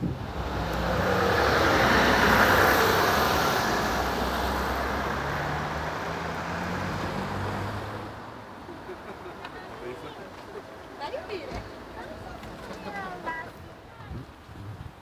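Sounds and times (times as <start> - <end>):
bus and cars driving past: 0.0 - 13.9.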